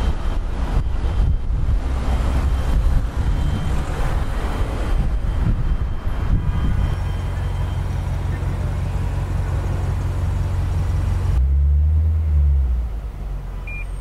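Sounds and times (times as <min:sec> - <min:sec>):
car engine rumble inside cabin: 0:00.0 - 0:14.0
road noise: 0:00.0 - 0:14.0.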